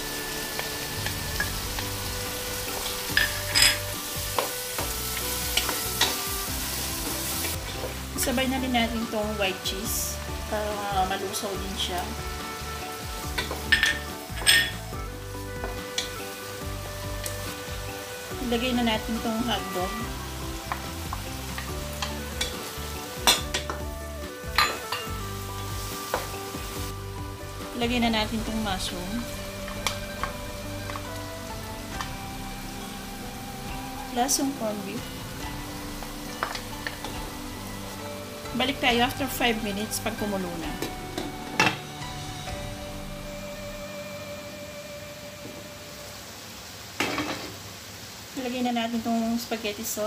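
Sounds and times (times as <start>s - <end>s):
meat sizzling in a frying pan: 0.0s - 50.0s.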